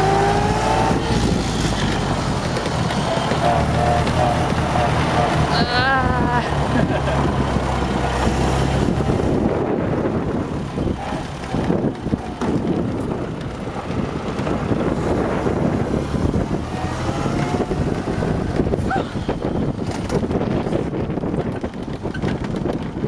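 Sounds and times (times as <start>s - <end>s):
car engine running: 0.0s - 23.0s
wind noise on microphone: 0.0s - 23.0s.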